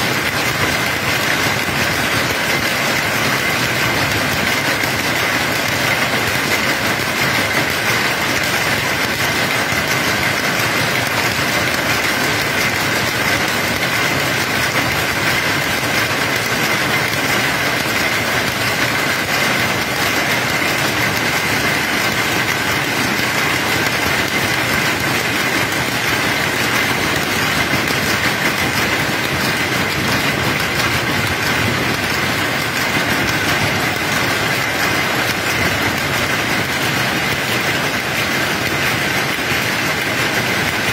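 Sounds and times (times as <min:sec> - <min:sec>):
power looms clattering: 0:00.0 - 0:40.9.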